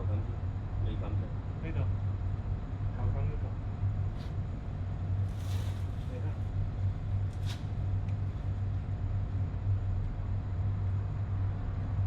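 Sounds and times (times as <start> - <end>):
air conditioning machinery humming: 0.0 - 12.0.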